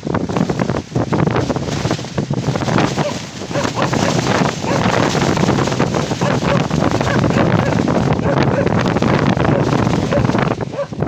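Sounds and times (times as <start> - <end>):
wind buffeting microphone: 0.0 - 11.0
irregular crackles: 0.2 - 11.0.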